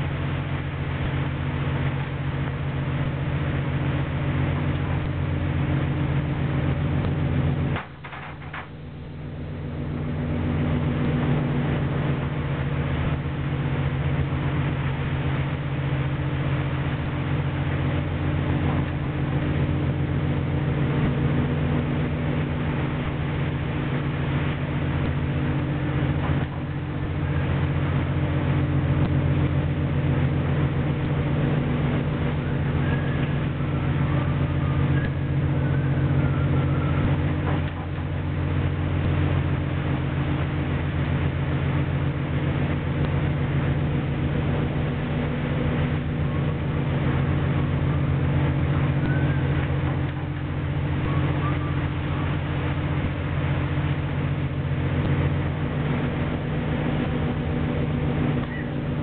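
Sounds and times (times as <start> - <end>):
boat engine droning: 0.0 - 59.0
rush of noise: 0.0 - 59.0.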